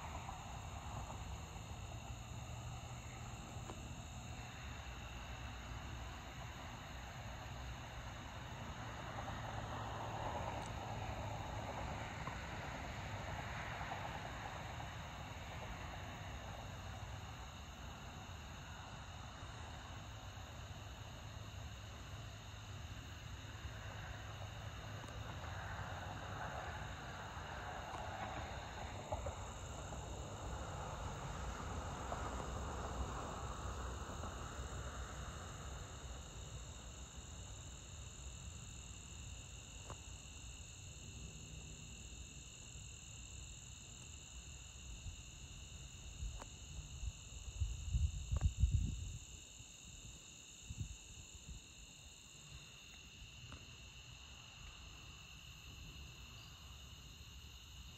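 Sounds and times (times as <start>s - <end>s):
crickets and insects chirping: 0.0s - 57.9s.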